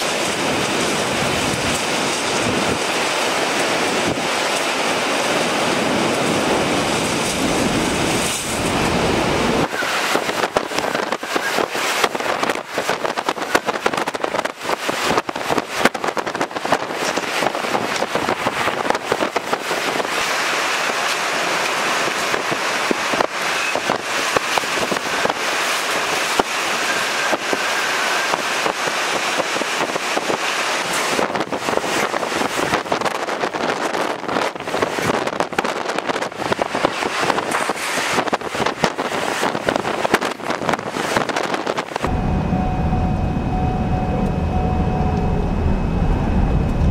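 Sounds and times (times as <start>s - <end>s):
wind and rain rushing: 0.0s - 46.9s.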